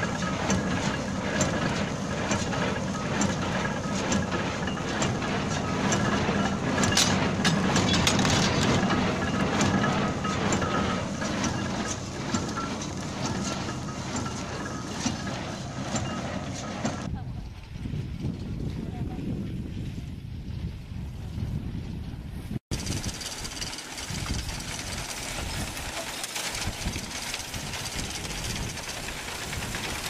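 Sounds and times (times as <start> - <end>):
baler mechanical clatter: 0.0 - 17.1, 22.7 - 30.0.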